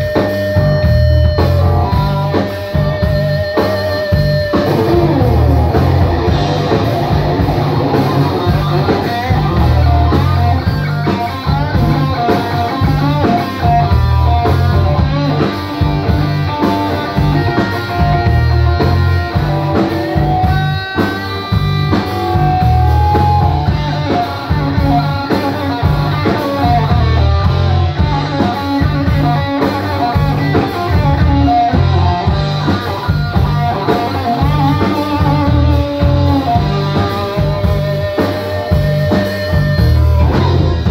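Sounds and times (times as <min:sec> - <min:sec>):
electric guitar lead lines: 0:00.0 - 0:40.9
live rock band playing: 0:00.0 - 0:40.9.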